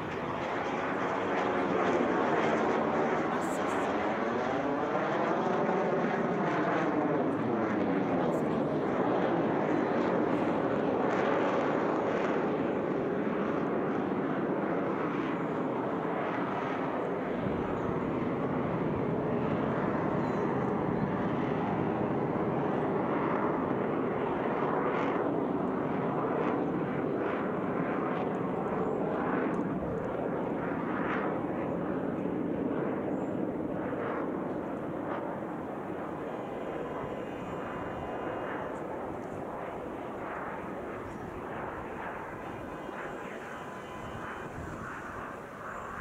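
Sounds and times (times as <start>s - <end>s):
jets flying overhead: 0.0s - 46.0s.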